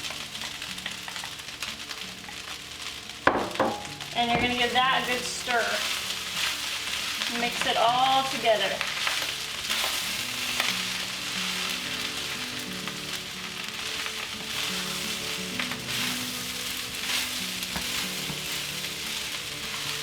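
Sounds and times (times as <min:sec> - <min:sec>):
food sizzling in a hot pan: 0:00.0 - 0:20.0.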